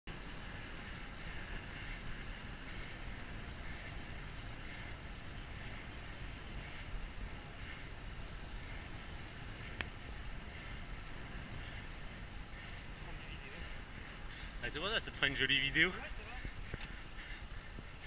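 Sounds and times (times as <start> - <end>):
low road rumble: 0.1 - 18.0.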